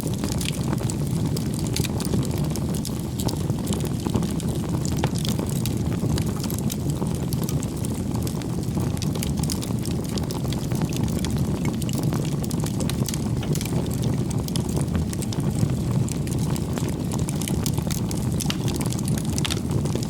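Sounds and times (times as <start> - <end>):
campfire flames rumbling: 0.0 - 20.0
logs crackling and popping: 0.0 - 20.0.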